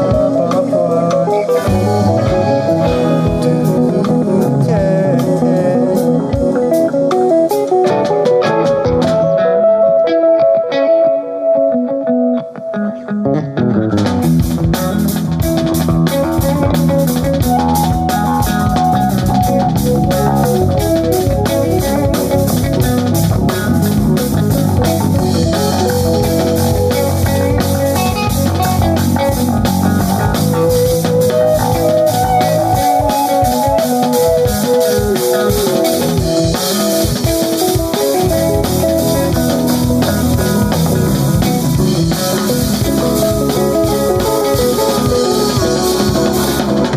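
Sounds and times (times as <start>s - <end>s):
drum kit steady beat: 0.0s - 9.4s, 14.0s - 46.9s
bass guitar: 0.0s - 46.9s
electric guitar: 0.0s - 46.9s.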